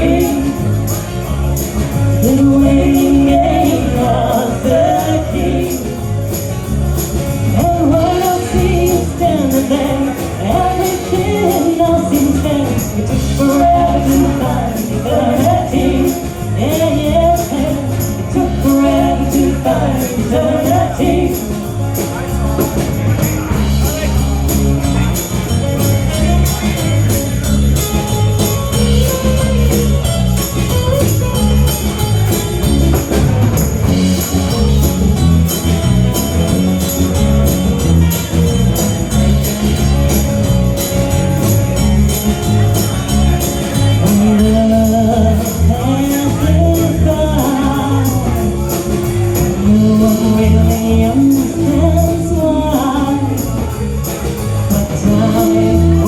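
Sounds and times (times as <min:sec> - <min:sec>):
bass and drums: 0:00.0 - 0:56.0
jingly high percussion: 0:00.0 - 0:56.0.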